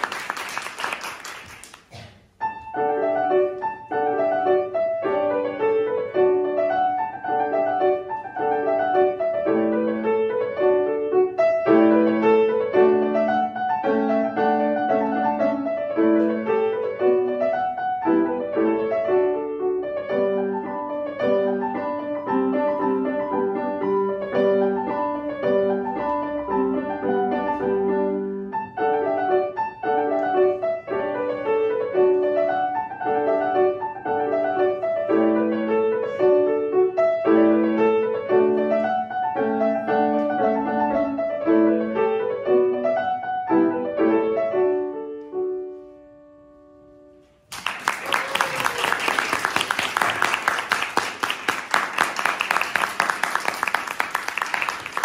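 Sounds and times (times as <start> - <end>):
grand piano playing: 2.4 - 47.5.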